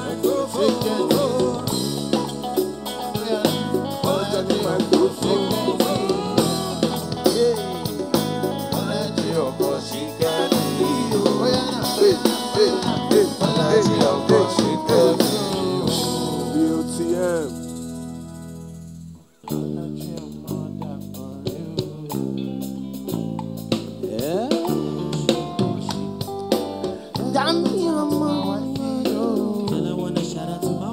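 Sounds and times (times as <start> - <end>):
guitar and bass: 0.0 - 30.9
live band music: 0.0 - 30.9.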